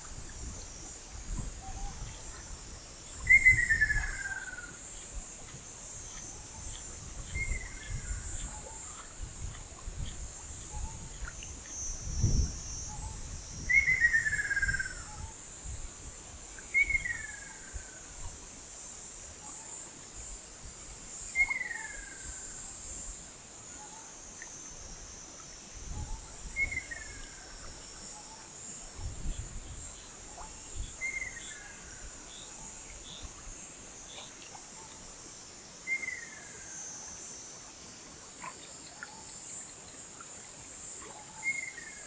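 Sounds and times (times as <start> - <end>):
insects chorus: 0.0 - 42.0.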